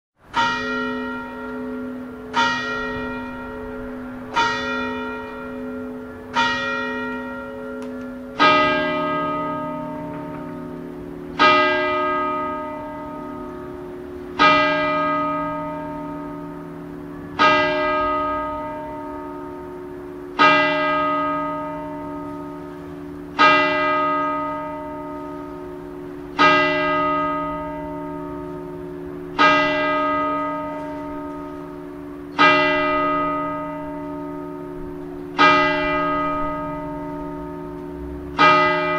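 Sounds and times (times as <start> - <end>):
deeper church bell tolling: 0.3 - 38.9
higher church bell tolling: 0.3 - 38.9.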